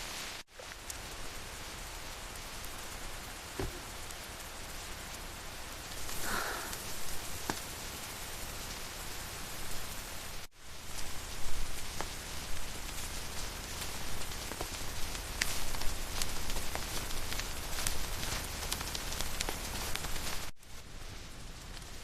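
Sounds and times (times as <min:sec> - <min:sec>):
rain falling: 0:00.0 - 0:22.0
raindrops ticking: 0:00.5 - 0:20.6.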